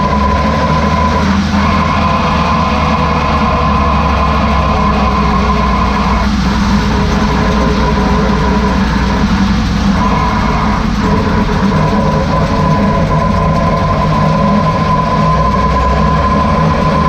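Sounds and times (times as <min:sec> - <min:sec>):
high differential whine: 0:00.0 - 0:17.0
van running rumble: 0:00.0 - 0:17.0.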